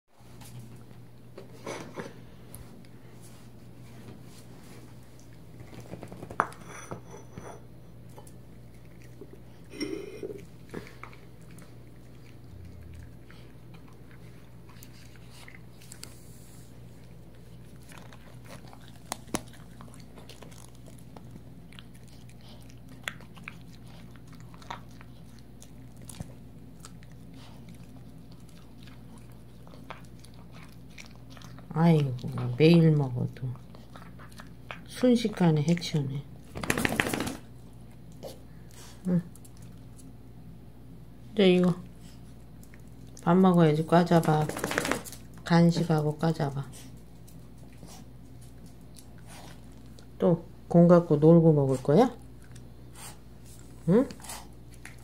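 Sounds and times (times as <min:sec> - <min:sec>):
dog chewing and crunching: 0:04.9 - 0:40.2, 0:41.8 - 0:50.2, 0:51.4 - 0:55.0.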